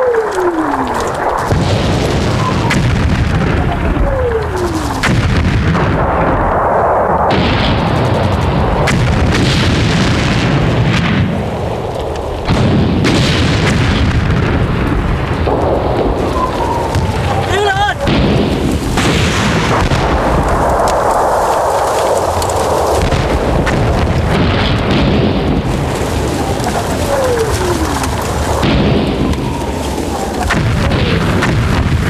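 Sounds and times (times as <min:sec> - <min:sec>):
heavy shell explosions: 0:00.0 - 0:32.0.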